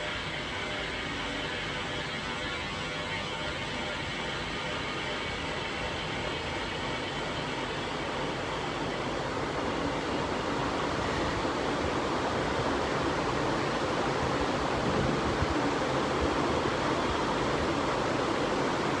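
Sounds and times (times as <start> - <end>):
ceiling fan air rush: 0.0 - 19.0.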